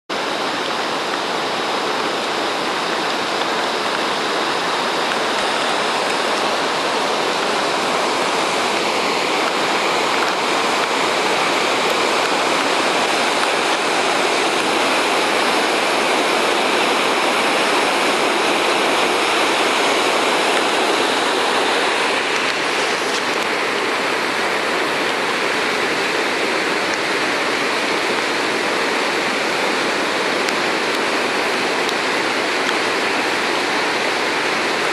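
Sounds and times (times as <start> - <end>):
river water rushing over rapids: 0.1 - 34.9.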